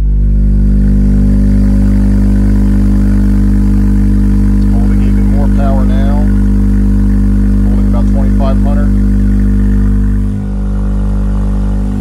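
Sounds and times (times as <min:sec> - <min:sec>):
subwoofer test tone hum: 0:00.0 - 0:12.0.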